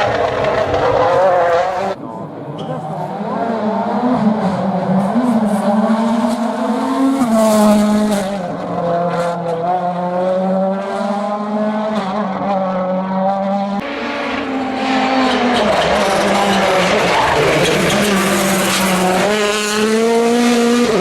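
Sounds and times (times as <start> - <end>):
engine at full throttle: 0.0 - 21.0.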